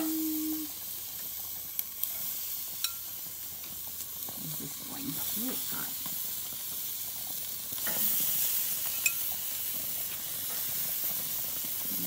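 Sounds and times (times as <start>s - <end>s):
chicken sizzling on a hot grill: 0.0s - 12.0s.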